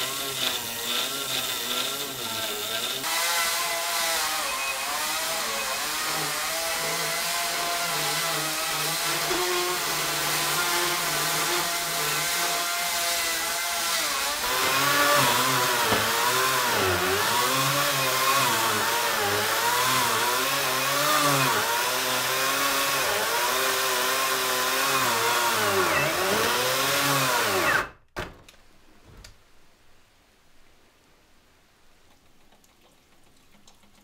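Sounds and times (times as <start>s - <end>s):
electric chainsaw cutting logs: 0.0s - 28.0s.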